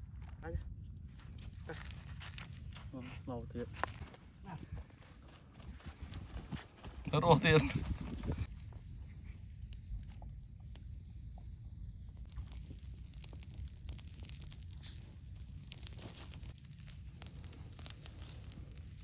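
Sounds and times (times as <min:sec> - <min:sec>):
steady low rumble: 0:00.0 - 0:06.5, 0:07.2 - 0:19.0
embers crackling and snapping: 0:00.1 - 0:05.1, 0:05.9 - 0:19.0.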